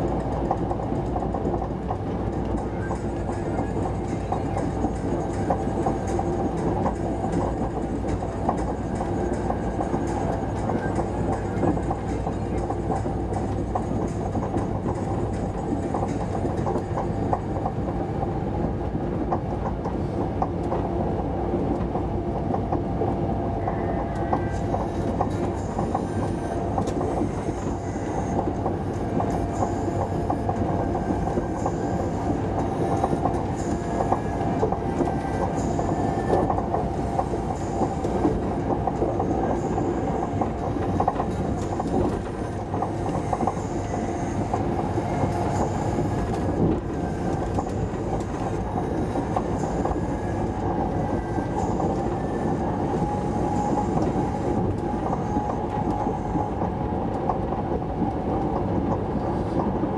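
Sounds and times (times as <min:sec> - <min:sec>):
constant hum: 0:00.0 - 0:59.9
train wheels rumbling on rails: 0:00.0 - 0:59.9.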